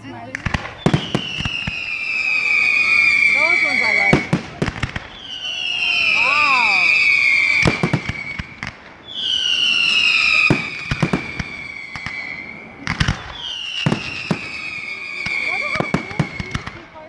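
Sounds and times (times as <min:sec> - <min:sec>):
firework shells bursting: 0:00.3 - 0:17.0
whistling firework shells: 0:00.3 - 0:17.0.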